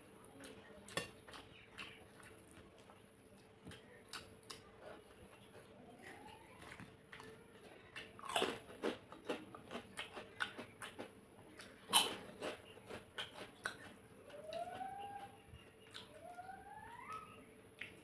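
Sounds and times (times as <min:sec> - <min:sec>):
crunchy food chewing: 0:00.0 - 0:18.0.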